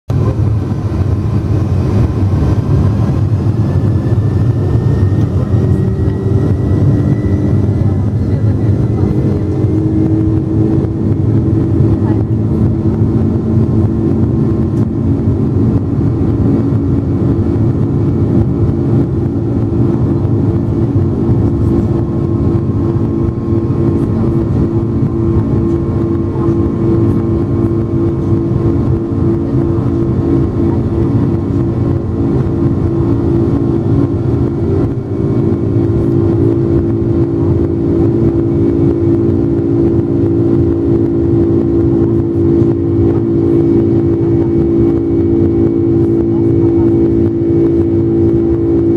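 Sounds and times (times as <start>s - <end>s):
jet engines roaring: 0.1s - 48.9s.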